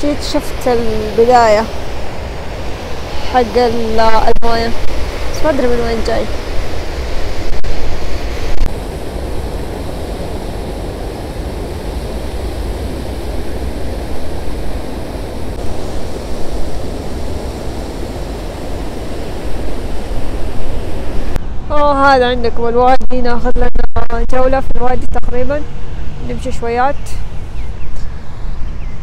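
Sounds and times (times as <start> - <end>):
water rushing over weir: 0.0 - 25.6.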